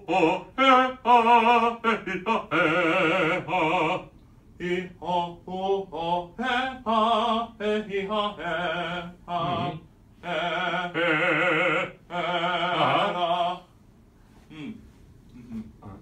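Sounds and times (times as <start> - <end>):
man singing operatic vocal exercise: 0.0 - 13.7.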